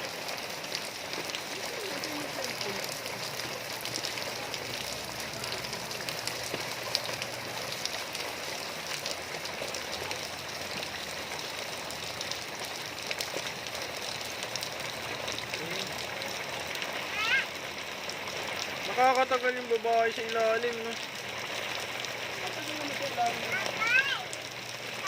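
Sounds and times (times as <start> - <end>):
raindrops ticking close by: 0.0 - 25.0
steady rain falling: 0.0 - 25.0.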